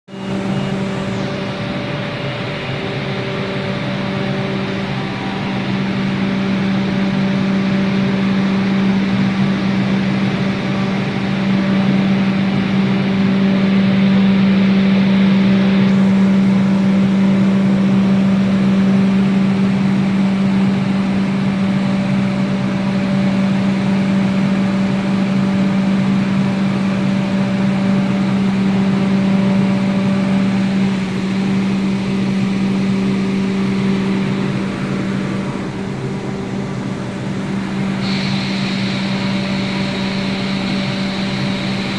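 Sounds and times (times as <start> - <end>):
train humming loudly: 0.0 - 41.9.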